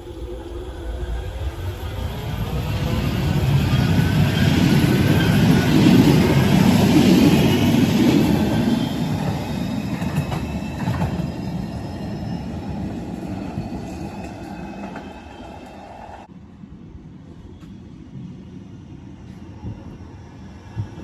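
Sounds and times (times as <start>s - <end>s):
tram rumbling past: 0.0s - 21.0s.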